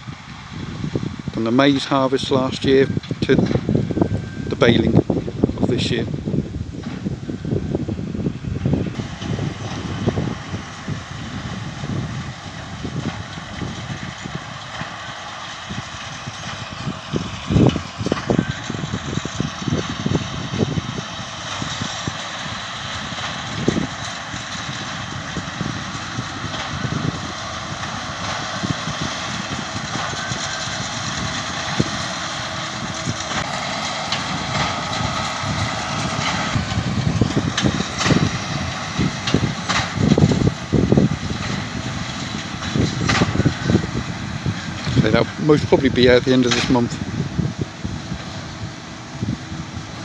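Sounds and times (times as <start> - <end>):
low thumps of baler: 0.0 - 50.0
tractor and baler running: 0.0 - 50.0.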